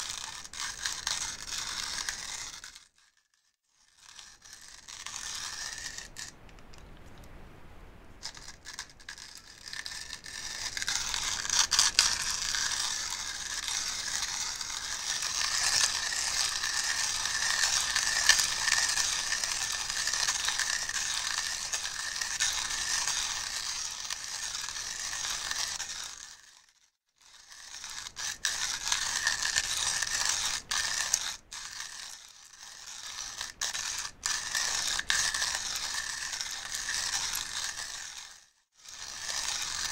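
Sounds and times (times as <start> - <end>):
coffee grinder grinding beans: 0.0 - 6.4, 8.2 - 39.9.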